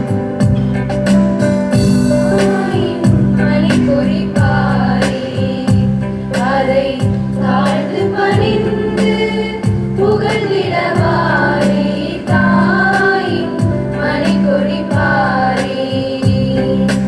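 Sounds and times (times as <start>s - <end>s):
regular drum beat: 0.0s - 17.0s
women singing: 2.2s - 17.0s.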